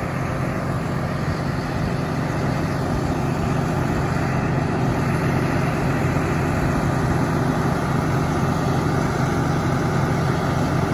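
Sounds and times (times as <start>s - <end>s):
diesel engine idling: 0.0s - 10.9s.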